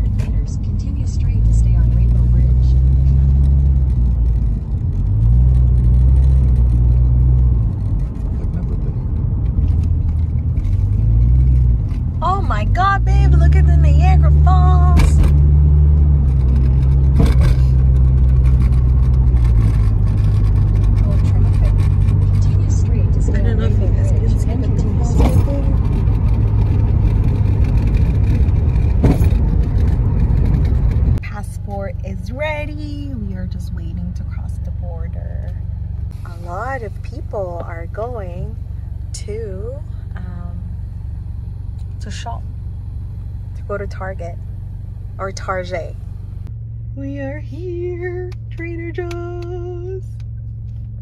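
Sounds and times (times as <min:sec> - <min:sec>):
car engine and tyres drone: 0:00.0 - 0:51.0.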